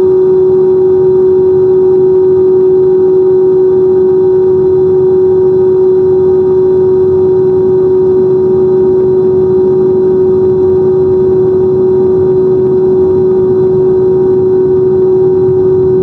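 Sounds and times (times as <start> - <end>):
loud steady drone: 0.0 - 16.0.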